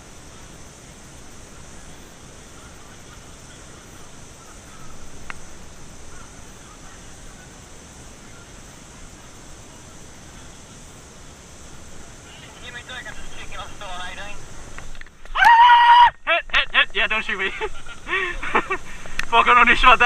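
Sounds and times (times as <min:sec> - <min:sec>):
distant wavering calls: 0:00.0 - 0:20.0
outdoor background noise: 0:00.0 - 0:20.0.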